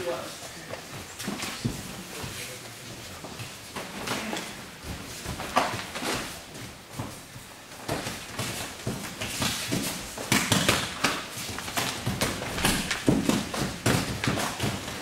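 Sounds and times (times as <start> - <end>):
bare feet shuffling on mats: 0.0 - 15.0.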